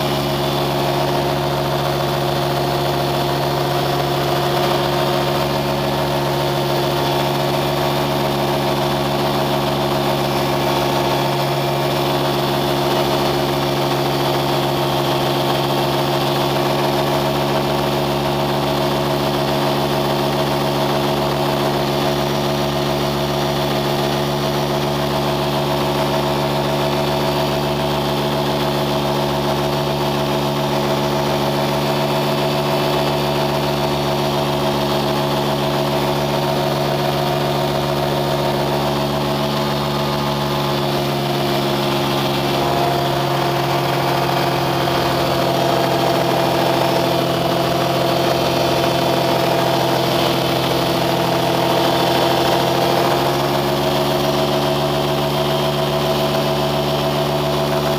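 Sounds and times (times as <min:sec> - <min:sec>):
engine humming steadily: 0:00.0 - 0:57.9.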